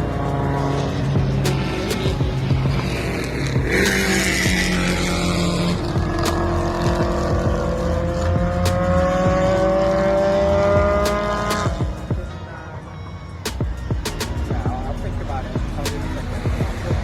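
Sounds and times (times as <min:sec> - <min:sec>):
racing car engine pulling hard: 0:00.0 - 0:17.0.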